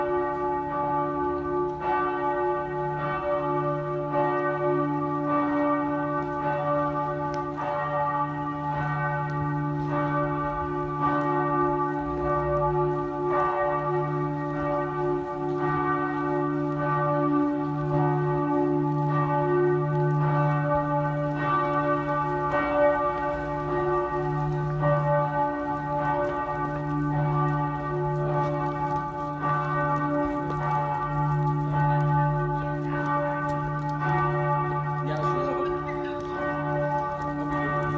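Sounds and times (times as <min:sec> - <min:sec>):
church bells pealing: 0:00.0 - 0:37.9.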